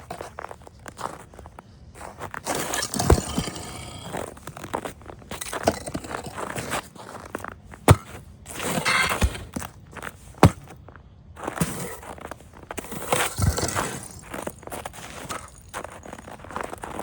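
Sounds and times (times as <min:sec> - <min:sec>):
footsteps crunching through snow: 0:00.0 - 0:17.0
ice cracking: 0:00.1 - 0:10.7, 0:11.4 - 0:17.0.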